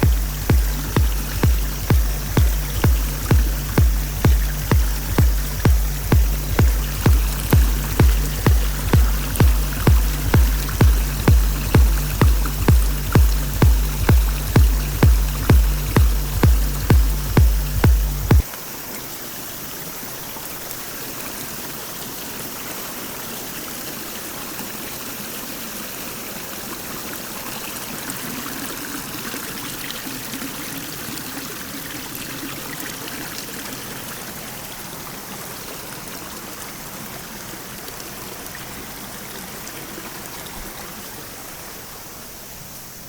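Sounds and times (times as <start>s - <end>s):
brook babbling: 0.0s - 43.0s.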